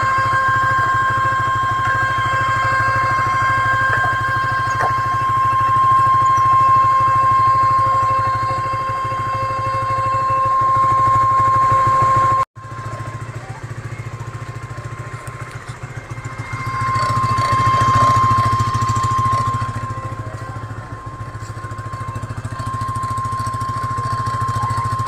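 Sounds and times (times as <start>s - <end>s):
high-pitched whine: 0.0s - 25.0s
motorcycle engine running: 0.0s - 25.0s.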